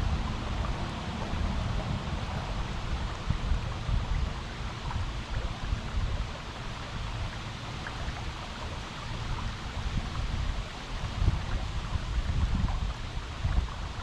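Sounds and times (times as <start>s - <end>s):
low water rumble: 0.0s - 14.0s
river water rushing: 0.0s - 14.0s.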